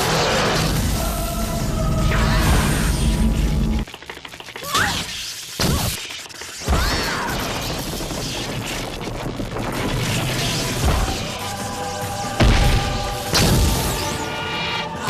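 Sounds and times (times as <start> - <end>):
dense steady crackling: 0.0 - 15.0.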